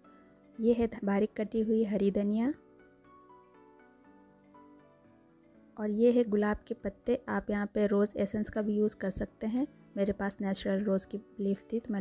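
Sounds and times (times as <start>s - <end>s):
faint music of held notes: 0.0s - 12.0s.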